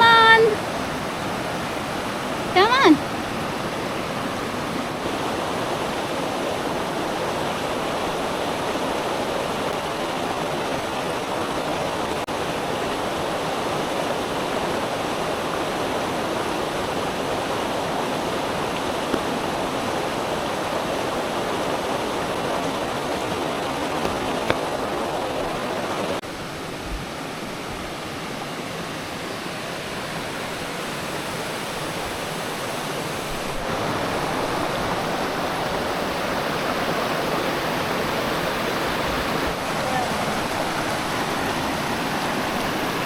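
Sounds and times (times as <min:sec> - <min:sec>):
river water rushing: 0:00.0 - 0:43.0.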